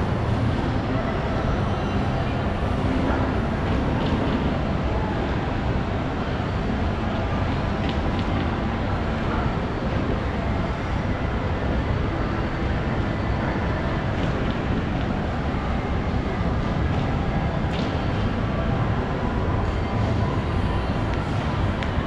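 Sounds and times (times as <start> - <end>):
shopping centre background noise: 0.0 - 22.0.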